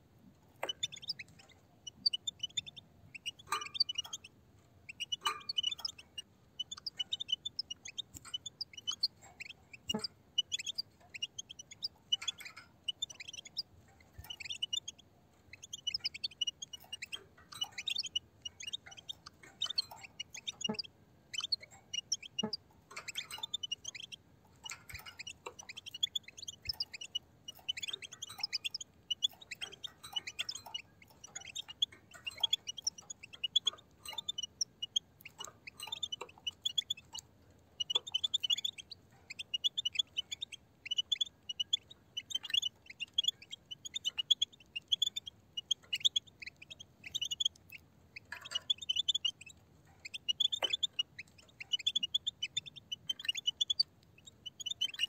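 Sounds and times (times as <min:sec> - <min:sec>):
goldfinches twittering: 0:00.6 - 0:04.3, 0:04.9 - 0:13.6, 0:14.2 - 0:37.2, 0:37.8 - 0:55.0.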